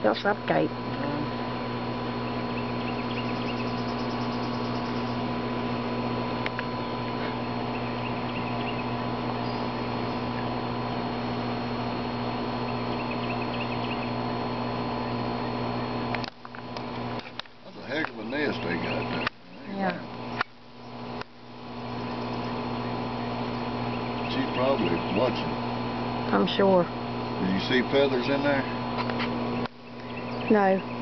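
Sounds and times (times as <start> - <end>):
steady multi-tone hum: 0.0 - 31.0.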